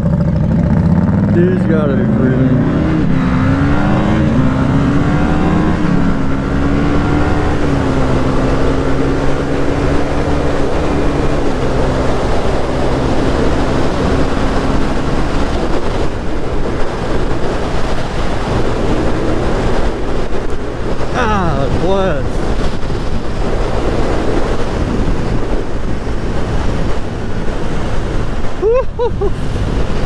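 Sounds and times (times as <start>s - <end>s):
motorcycle engine cruising: 0.0s - 30.0s
wind rushing over microphone: 0.0s - 30.0s.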